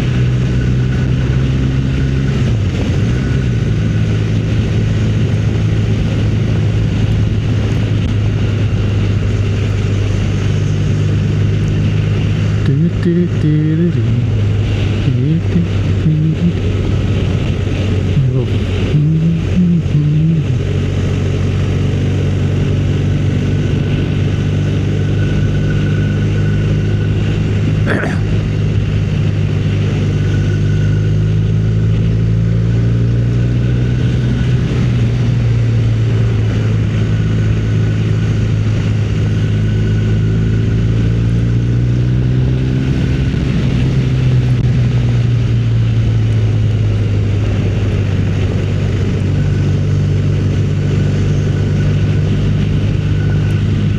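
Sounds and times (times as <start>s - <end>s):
motorcycle engine cruising: 0.0s - 53.9s.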